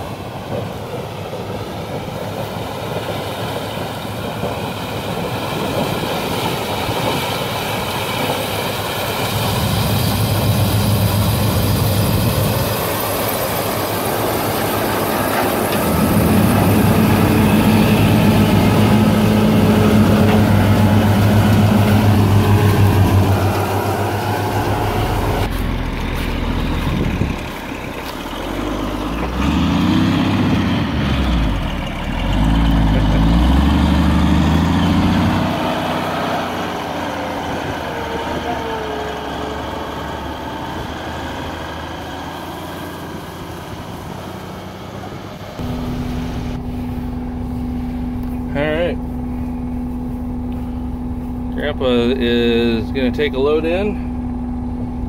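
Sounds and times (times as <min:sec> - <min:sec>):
combine diesel engine running: 0:00.0 - 0:55.0
truck diesel engine revving: 0:04.3 - 0:55.0
engine hum inside cab: 0:08.3 - 0:30.0, 0:30.7 - 0:55.0.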